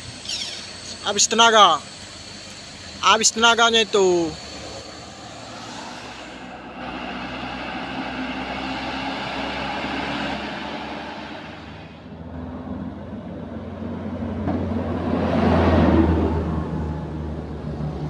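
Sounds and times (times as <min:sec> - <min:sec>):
diesel truck engines: 0:00.0 - 0:18.0.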